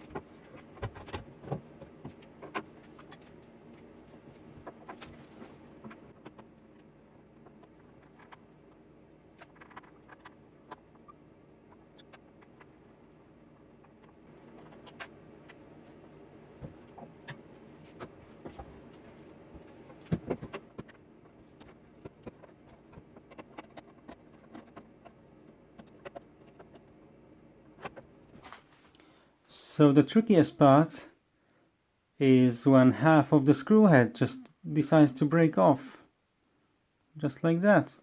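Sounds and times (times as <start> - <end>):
low steady background: 0.0 - 38.0.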